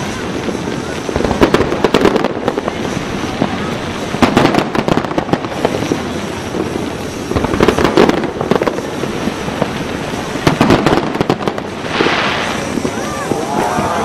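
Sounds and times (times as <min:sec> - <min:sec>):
fireworks bursting: 0:00.0 - 0:14.0
steady rumble: 0:00.0 - 0:14.0.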